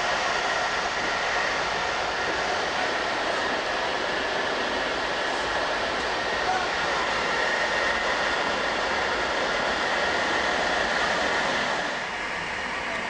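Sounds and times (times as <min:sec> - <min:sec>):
thin steady whine: 0:00.0 - 0:13.0
train rumble and rushing noise: 0:00.0 - 0:13.0.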